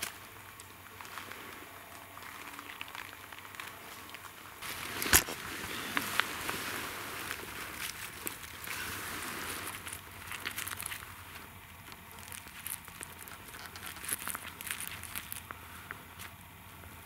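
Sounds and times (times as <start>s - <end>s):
footsteps crunching through dry leaves: 0.0s - 16.4s
leaves and gloved hands rustling: 0.0s - 17.0s.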